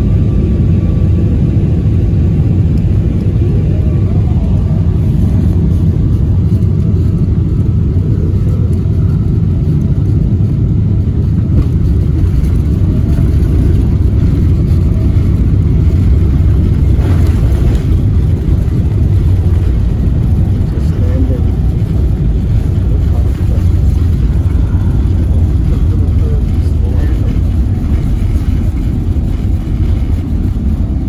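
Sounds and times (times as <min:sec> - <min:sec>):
jet engines and wheels rumbling: 0:00.0 - 0:31.0.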